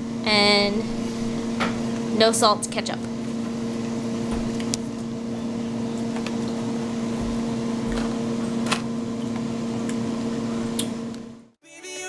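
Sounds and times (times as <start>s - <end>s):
appliance electrical hum: 0.0s - 11.6s.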